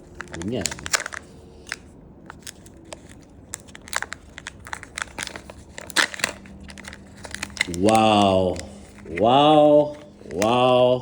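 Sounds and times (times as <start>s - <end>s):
plastic packaging crinkling and tearing: 0.0s - 9.2s.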